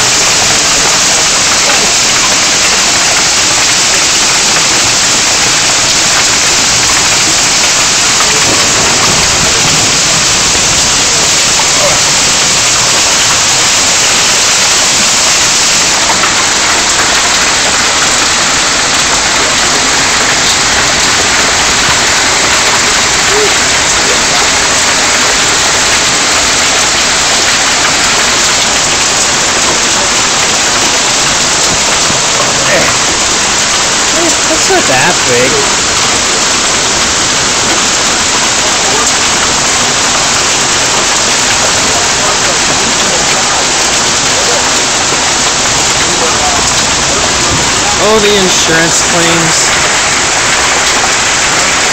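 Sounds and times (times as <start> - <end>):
heavy rain pelting down: 0.0 - 51.9
ticks of hailstones: 0.0 - 51.9.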